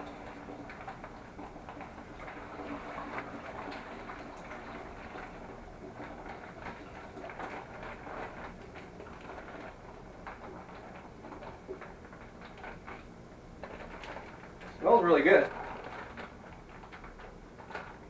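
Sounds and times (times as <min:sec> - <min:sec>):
juice pouring into plastic pail: 0:00.0 - 0:18.0
plastic bag rustling: 0:00.0 - 0:18.0.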